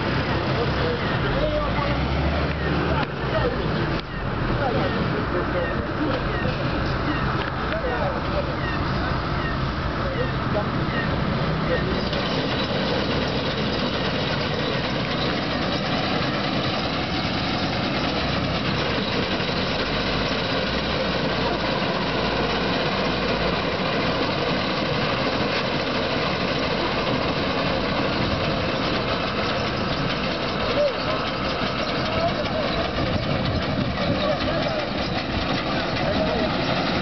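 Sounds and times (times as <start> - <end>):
combine harvester droning: 0.0 - 37.0.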